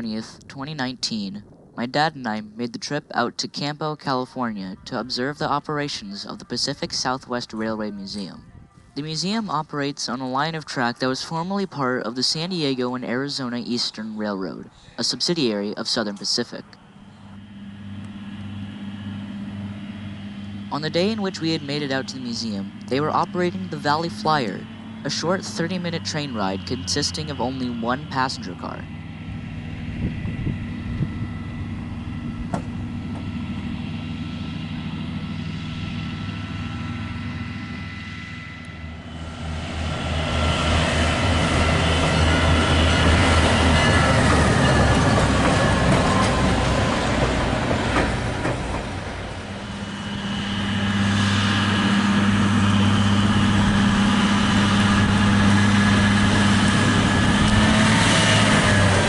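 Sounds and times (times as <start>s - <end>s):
locomotive engine drone: 0.0s - 59.0s.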